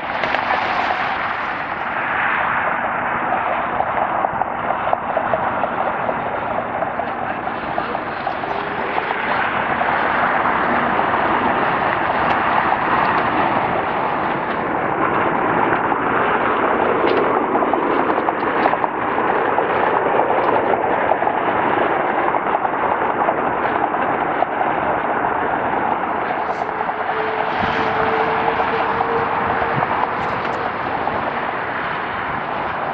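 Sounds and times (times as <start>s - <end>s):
jet engines roaring: 0.0s - 32.9s.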